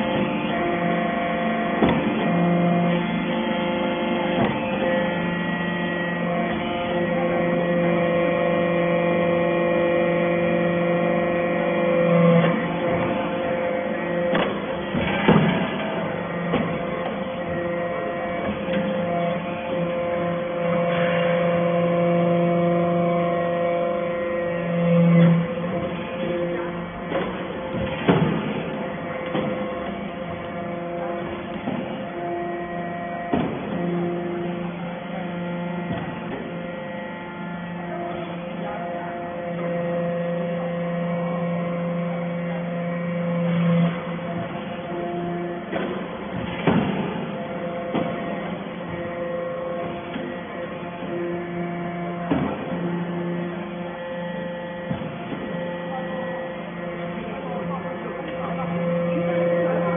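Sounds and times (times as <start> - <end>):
electric motor hum: 0.0 - 59.9.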